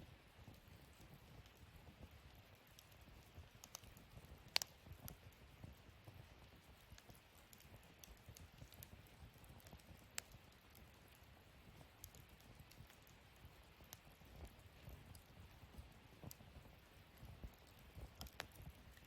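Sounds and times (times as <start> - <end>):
fire popping: 0.0 - 19.0
wood fire crackling: 0.0 - 19.0.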